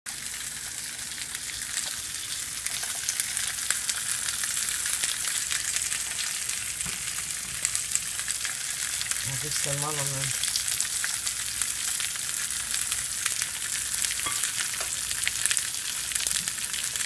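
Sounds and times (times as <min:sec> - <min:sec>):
corn sizzling on a griddle: 0:00.1 - 0:17.0.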